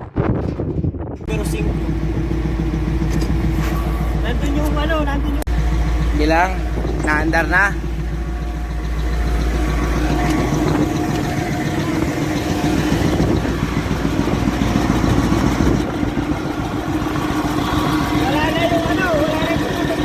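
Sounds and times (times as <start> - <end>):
diesel engine idling: 1.2 - 20.0.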